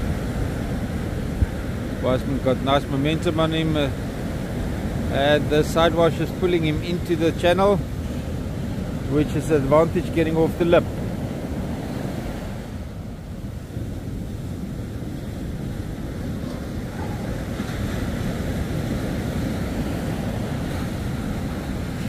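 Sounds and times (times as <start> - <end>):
surf washing on beach: 0.0 - 22.0
wind buffeting microphone: 0.0 - 22.0.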